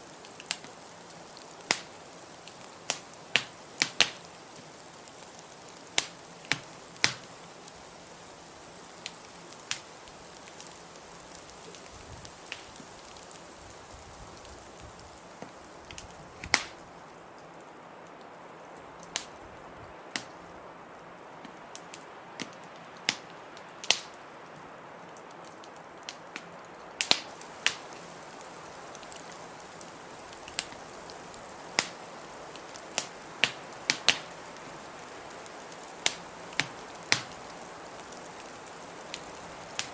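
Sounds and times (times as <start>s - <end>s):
steady hiss: 0.0s - 39.9s
wood fire crackling and popping: 0.0s - 39.9s.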